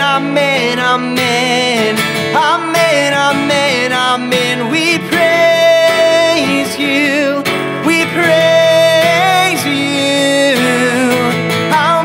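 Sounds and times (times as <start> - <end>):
man singing with vibrato: 0.0 - 12.0
strummed acoustic guitar: 0.0 - 12.0.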